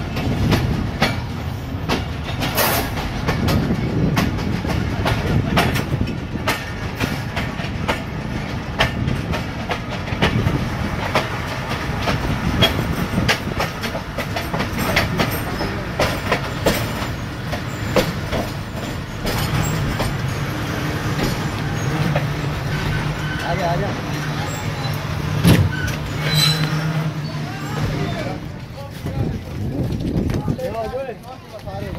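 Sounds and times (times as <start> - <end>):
train rumbling on track: 0.0 - 31.9
wheel clacks over rail joints: 0.0 - 31.9.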